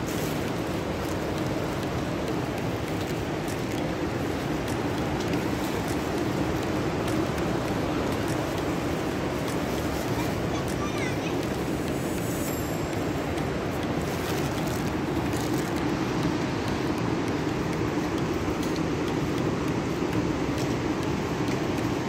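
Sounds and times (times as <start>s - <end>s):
river and waterfall rushing: 0.0s - 22.0s.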